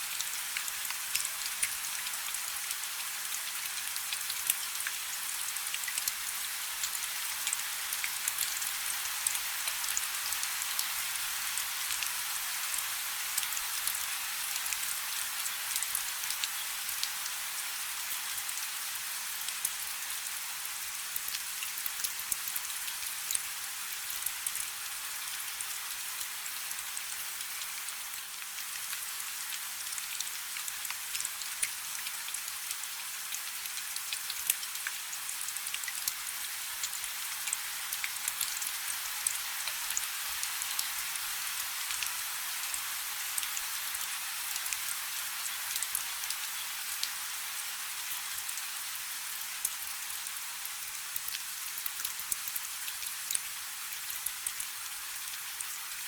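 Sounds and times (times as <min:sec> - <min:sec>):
rain falling on a river: 0:00.0 - 0:56.0.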